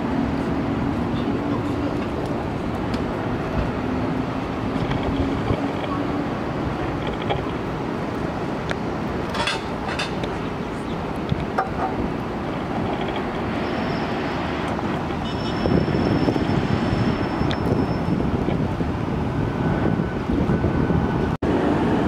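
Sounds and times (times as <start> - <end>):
jet airliners taxiing: 0.0 - 22.0
wind buffeting the microphone: 0.0 - 22.0.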